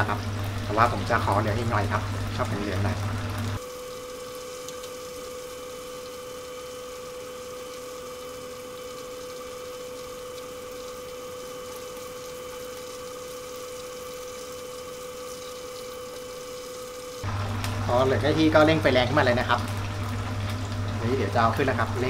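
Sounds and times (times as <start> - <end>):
food sizzling in hot oil: 0.0 - 22.0
mechanical hum: 0.0 - 22.0.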